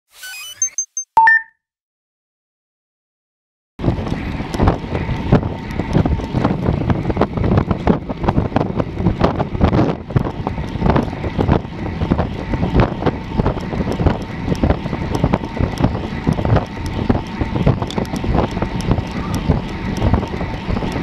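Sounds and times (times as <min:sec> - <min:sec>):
tyres rumbling on asphalt: 0:03.8 - 0:21.0
wind buffeting microphone: 0:03.8 - 0:21.0.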